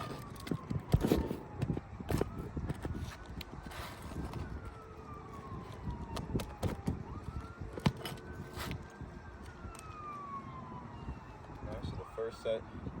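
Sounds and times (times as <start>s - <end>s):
siren wailing: 0.0s - 12.7s.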